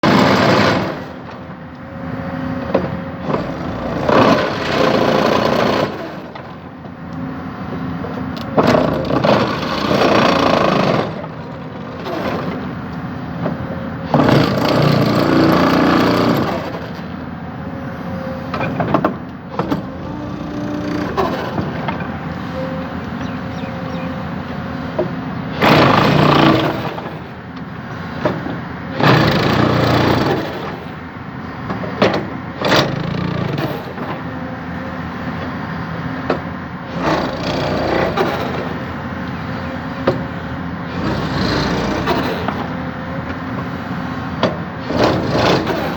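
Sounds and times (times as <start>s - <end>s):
excavator diesel engine surging: 0.0s - 45.9s.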